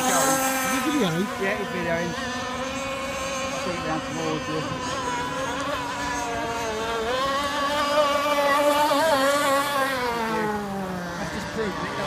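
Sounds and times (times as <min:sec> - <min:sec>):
motorboat engine whining: 0:00.0 - 0:12.0.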